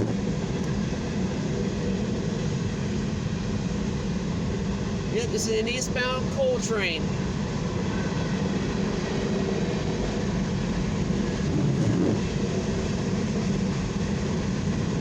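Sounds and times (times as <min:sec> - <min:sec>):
train wheels rumbling on rails: 0:00.0 - 0:05.3, 0:07.1 - 0:15.0.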